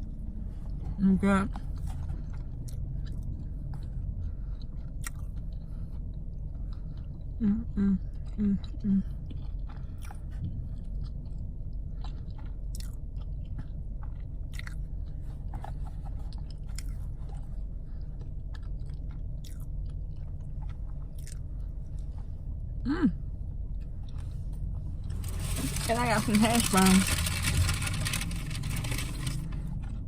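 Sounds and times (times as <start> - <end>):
steady low hum: 0.0 - 30.0
chewing and biting food: 1.5 - 22.6, 23.5 - 30.0.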